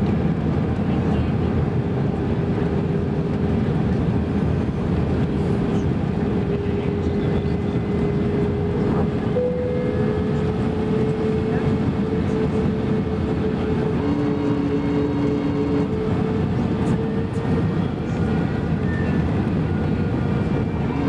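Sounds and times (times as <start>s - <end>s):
steady engine hum: 0.0s - 21.0s.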